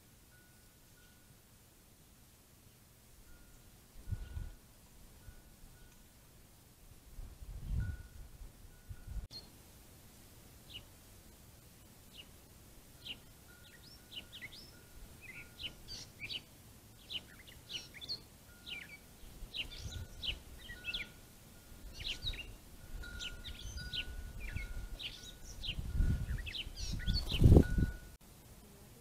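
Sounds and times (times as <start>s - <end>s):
songbird chirps: 0.0s - 7.0s, 7.8s - 28.8s.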